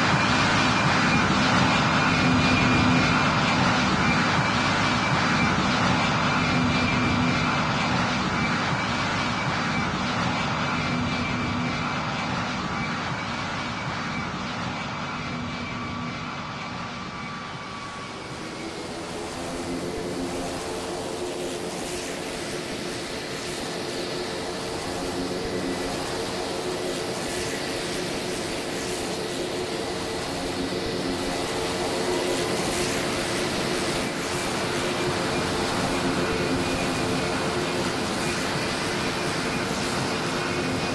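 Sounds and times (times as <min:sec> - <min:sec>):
airplane engines running: 0:00.0 - 0:40.9.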